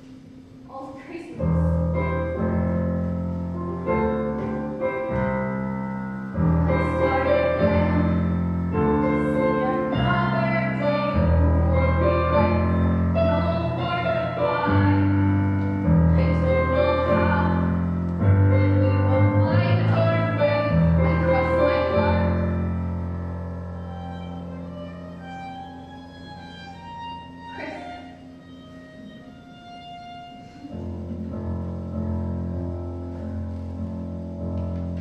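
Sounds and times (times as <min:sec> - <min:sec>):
piano playing slow chords: 0:00.0 - 0:35.0.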